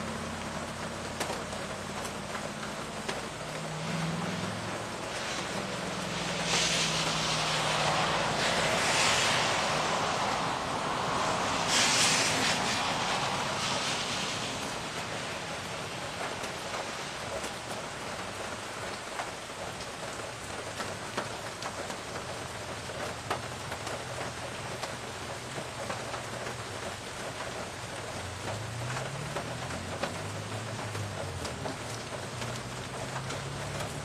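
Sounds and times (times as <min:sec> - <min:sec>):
car tyres hissing on wet road: 0:00.0 - 0:34.0
rain falling on wet street: 0:00.0 - 0:34.0.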